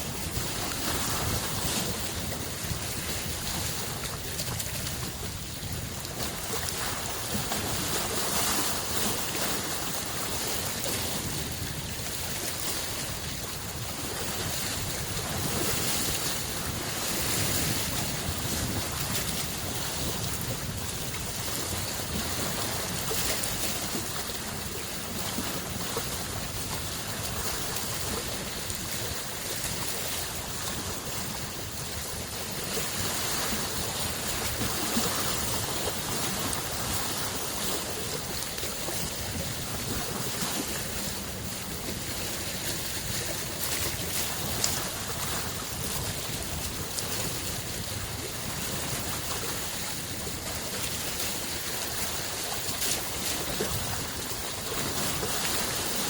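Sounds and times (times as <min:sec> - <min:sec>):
lake waves washing onto shore: 0:00.0 - 0:56.0.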